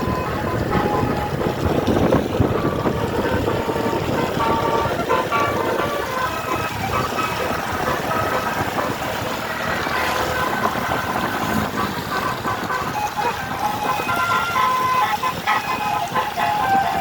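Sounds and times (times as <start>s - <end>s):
bus engine: 0.0s - 17.0s
musical bus horn playing tune: 0.0s - 17.0s
road noise: 0.0s - 17.0s.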